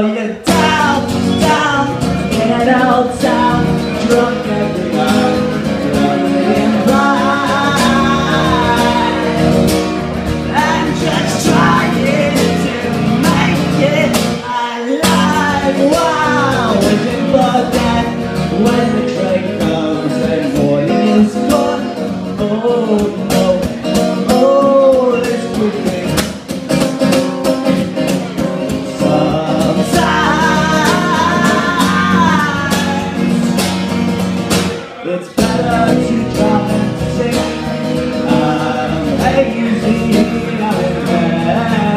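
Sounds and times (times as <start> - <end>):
live folk band music: 0.0 - 41.9.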